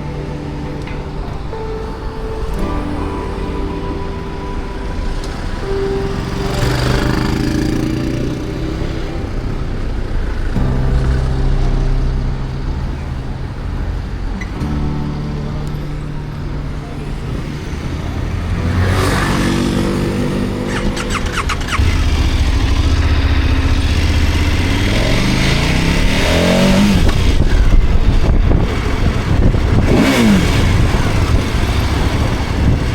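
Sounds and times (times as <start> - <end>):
motorcycle engine accelerating: 2.5 - 32.9.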